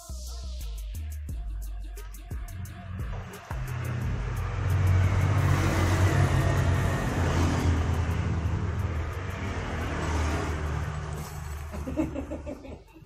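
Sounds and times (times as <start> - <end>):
low engine rumble: 1.3 - 12.8.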